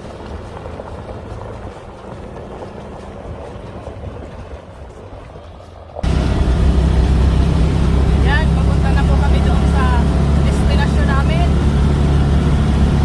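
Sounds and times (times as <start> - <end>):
farm vehicle engine droning: 0.0 - 13.0.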